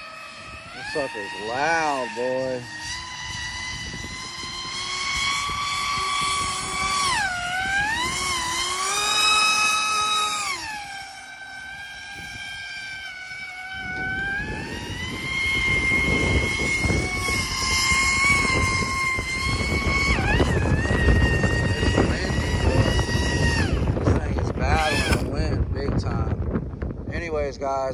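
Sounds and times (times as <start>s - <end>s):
airboat motor and propeller whine: 0.0s - 27.9s
low rumbling noise: 0.0s - 27.9s.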